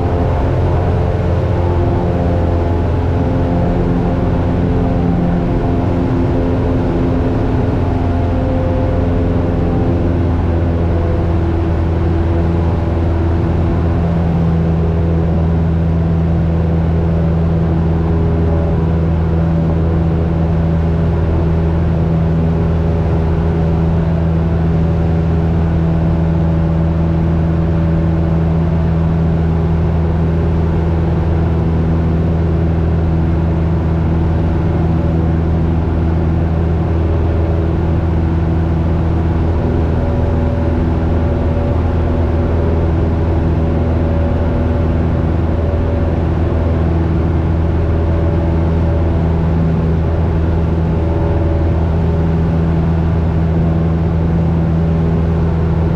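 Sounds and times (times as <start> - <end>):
airplane engine and propeller: 0.0 - 55.9.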